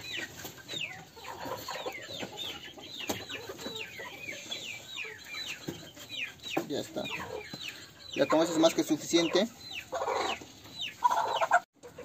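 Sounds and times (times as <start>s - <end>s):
chickens calling: 0.0s - 12.0s
chickens clucking: 0.0s - 12.0s.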